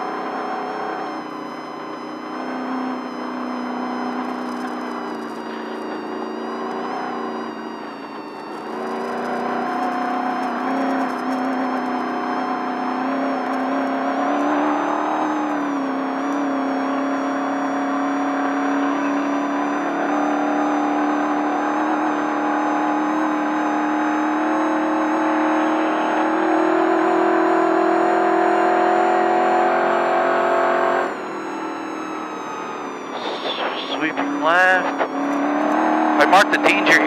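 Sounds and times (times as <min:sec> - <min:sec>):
truck engine at high revs: 0:00.0 - 0:37.0.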